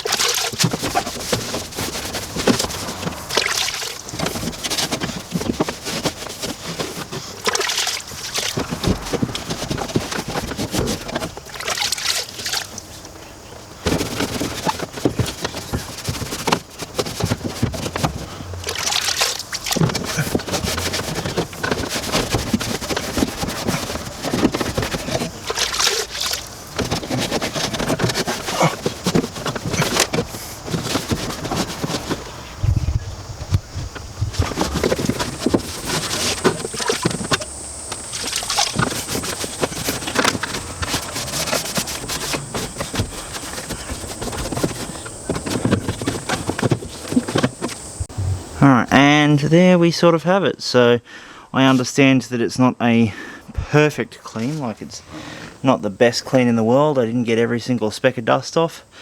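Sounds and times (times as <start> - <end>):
water sloshing in a bucket: 0.0 - 48.8
wet rag scrubbing car: 0.0 - 49.2.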